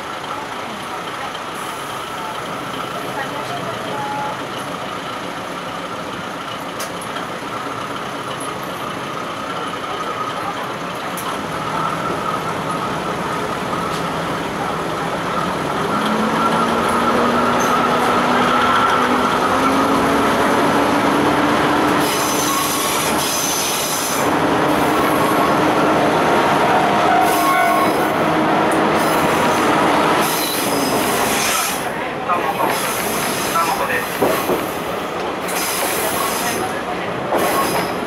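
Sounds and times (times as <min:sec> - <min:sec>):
diesel railcar engine: 0:00.0 - 0:38.0.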